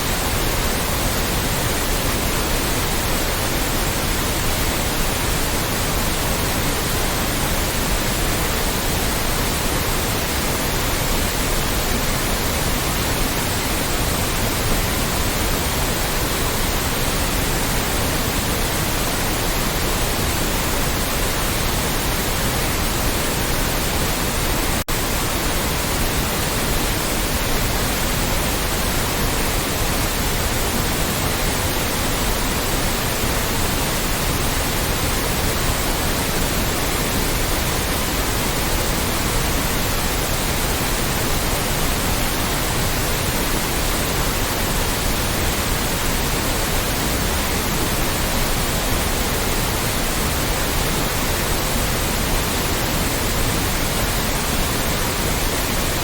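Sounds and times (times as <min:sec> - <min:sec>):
electronic white noise: 0:00.0 - 0:56.0.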